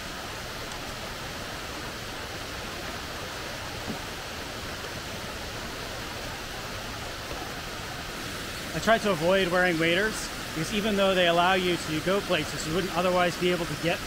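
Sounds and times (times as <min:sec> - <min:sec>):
water running over stones: 0:00.0 - 0:14.0.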